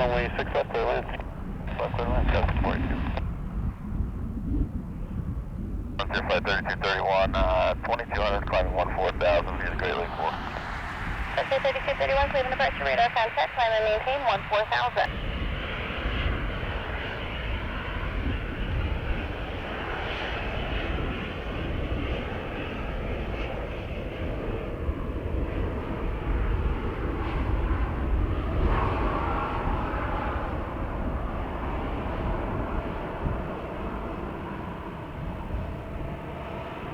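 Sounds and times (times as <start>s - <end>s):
jet engines rushing: 0.0s - 4.4s, 5.0s - 36.9s
wind rumble on microphone: 0.0s - 36.9s.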